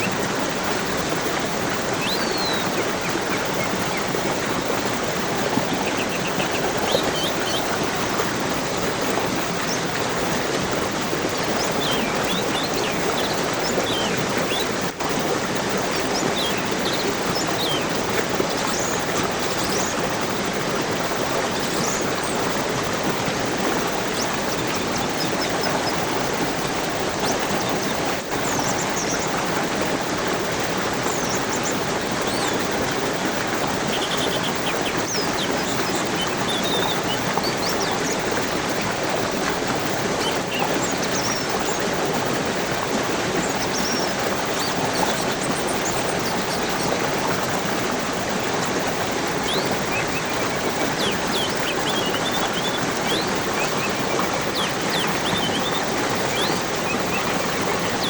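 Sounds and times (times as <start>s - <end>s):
small birds chirping: 0.0s - 47.9s, 48.7s - 58.0s
rushing water stream: 0.0s - 58.0s.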